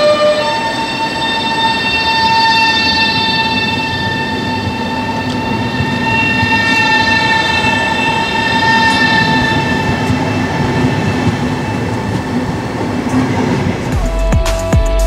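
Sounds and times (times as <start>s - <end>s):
steady high tone: 0.0s - 12.2s
electric train running: 0.0s - 14.0s.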